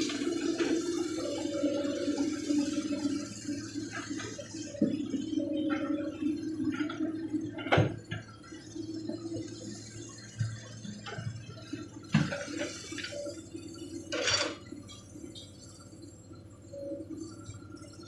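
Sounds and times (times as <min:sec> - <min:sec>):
excavator engine hum: 0:00.0 - 0:18.0.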